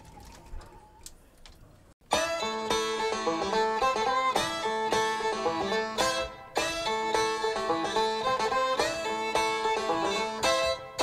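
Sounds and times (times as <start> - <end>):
bluegrass string band playing: 2.0 - 11.0
fiddle bowing melody: 2.0 - 11.0.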